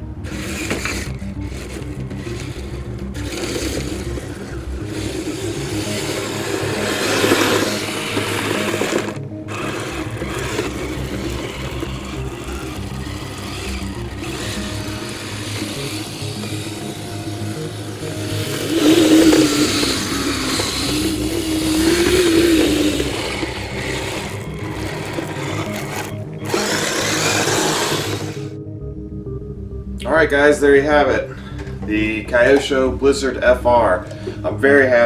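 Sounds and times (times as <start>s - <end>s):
electric motors whirring: 0.0s - 28.6s.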